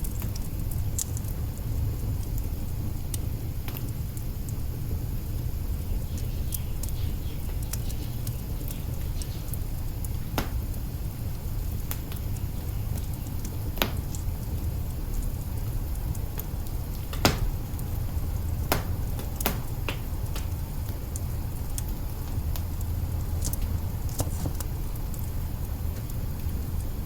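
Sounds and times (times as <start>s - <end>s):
fire crackles and pops: 0.0s - 27.0s
wood fire rumble: 0.0s - 27.0s.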